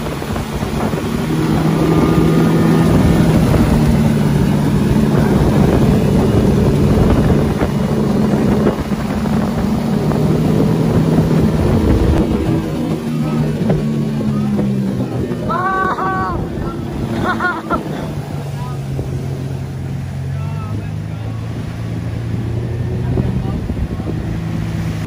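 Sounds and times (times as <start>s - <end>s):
wind rushing: 0.0s - 20.2s
outboard motor running hard: 0.0s - 25.0s.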